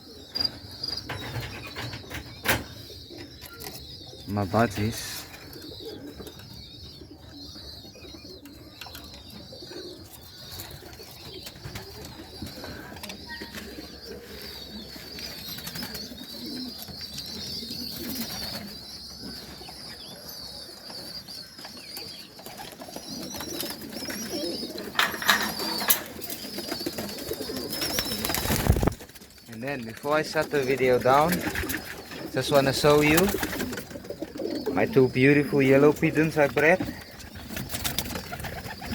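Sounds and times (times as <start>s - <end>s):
budgerigars chattering: 0.0s - 22.4s, 23.0s - 38.9s
pigeons cooing: 0.0s - 38.9s.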